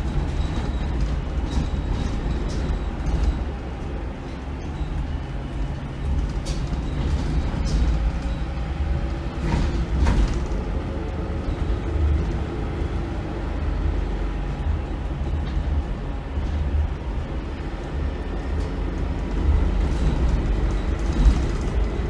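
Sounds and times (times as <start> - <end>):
bus diesel engine rumble: 0.0 - 22.0
road noise: 0.0 - 22.0.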